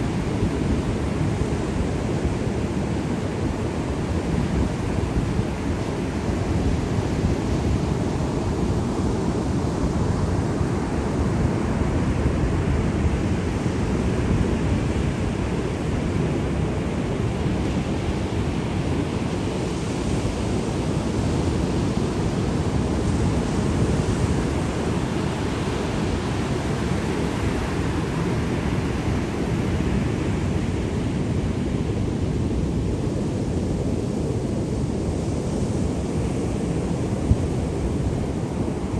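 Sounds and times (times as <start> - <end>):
sea waves washing in: 0.2 - 38.9.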